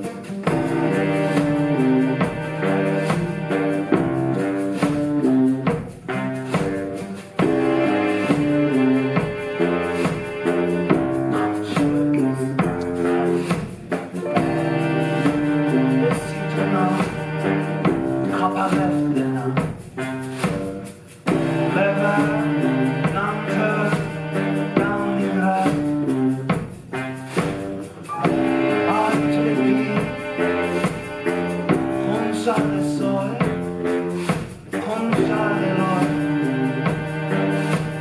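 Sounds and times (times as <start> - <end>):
drums: 0.0 - 38.0
live ensemble music: 0.0 - 38.0.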